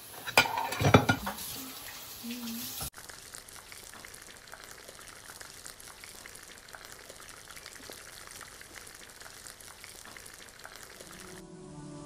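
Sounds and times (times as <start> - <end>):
oil sizzling in frying pan: 0.0 - 11.4.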